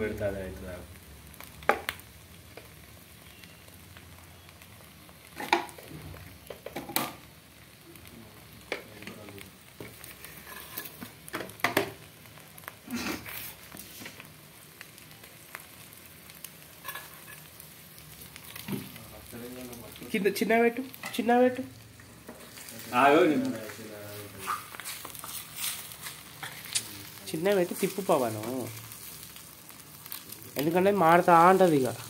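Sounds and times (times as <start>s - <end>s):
omelette sizzling in a pan: 0.0s - 32.0s.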